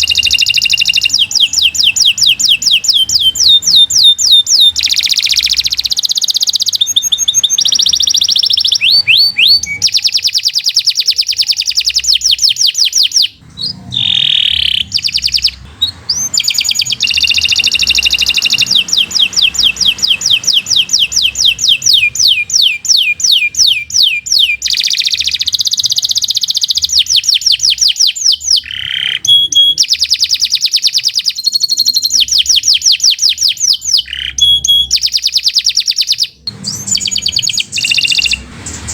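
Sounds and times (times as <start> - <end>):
canary trilling: 0.0 - 38.9.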